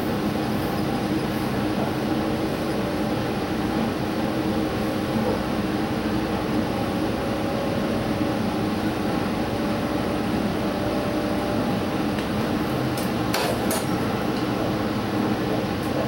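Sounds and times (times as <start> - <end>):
low diesel engine drone: 0.0 - 16.0
train running rumble: 0.0 - 16.0.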